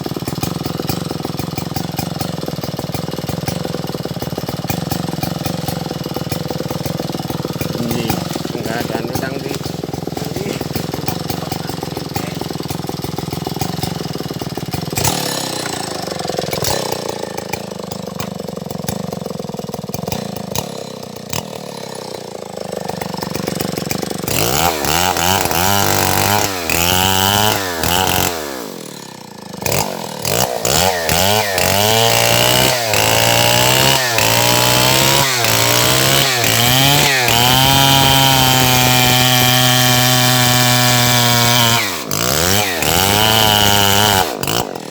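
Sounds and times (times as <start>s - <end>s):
chainsaw engine revving: 0.0s - 44.9s.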